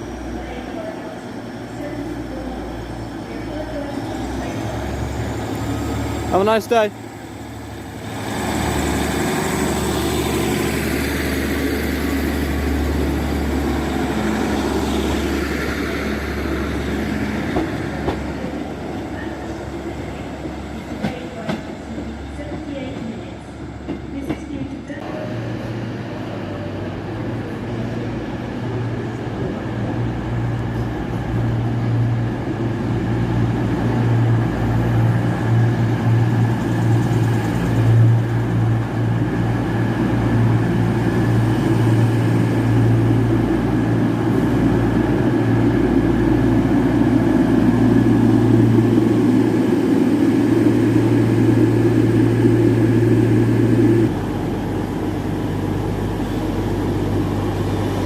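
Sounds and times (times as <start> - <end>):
train running close by: 0.0 - 58.0.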